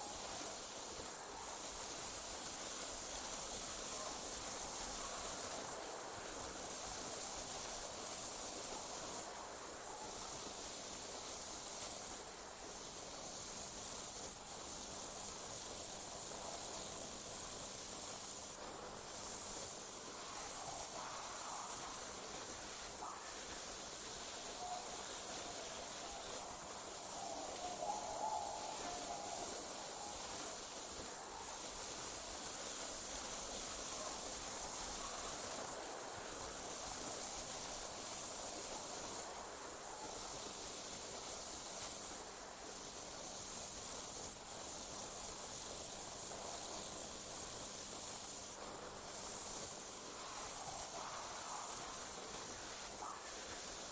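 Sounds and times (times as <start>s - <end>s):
crickets trilling: 9.9s - 53.9s.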